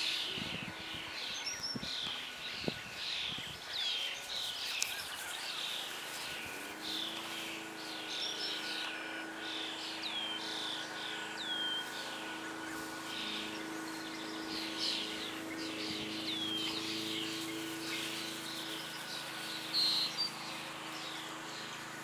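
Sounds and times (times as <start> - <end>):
downward sweeping bird calls: 0.0 - 22.0
songbirds chirping: 0.0 - 22.0
steady low hum: 0.0 - 22.0.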